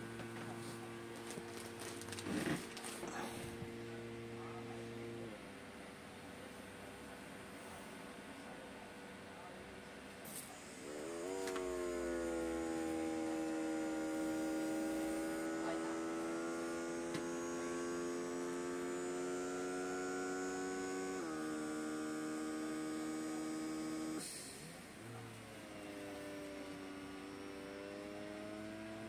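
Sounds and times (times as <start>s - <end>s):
small air pump humming: 0.0s - 5.6s, 10.2s - 29.0s.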